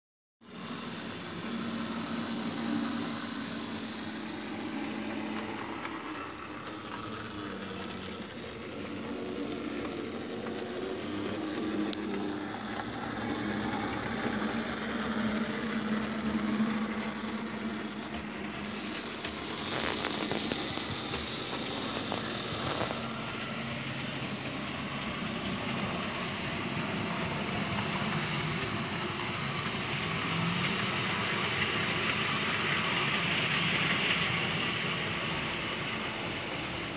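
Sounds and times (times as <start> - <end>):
model train motor hum: 0.4 - 36.9
wheels rolling on track: 0.4 - 36.9.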